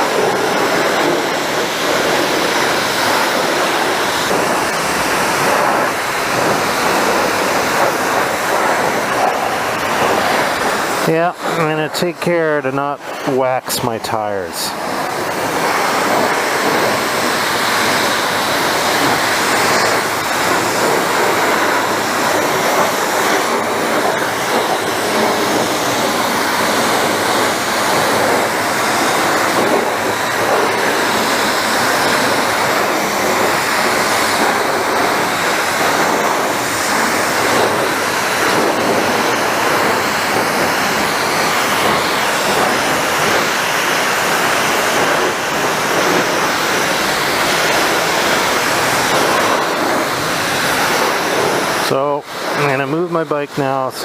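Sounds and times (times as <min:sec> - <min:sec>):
pressure wand spraying water: 0:00.0 - 0:54.0.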